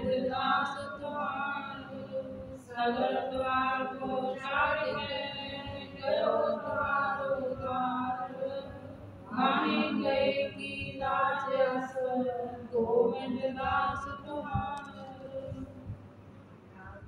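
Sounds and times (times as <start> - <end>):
women singing a hymn: 0.0 - 15.8.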